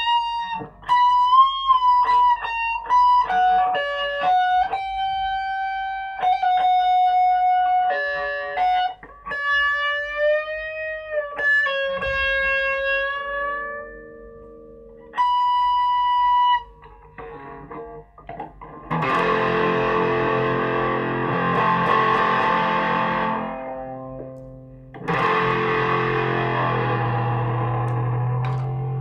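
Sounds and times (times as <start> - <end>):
distorted electric guitar: 0.0 - 29.0.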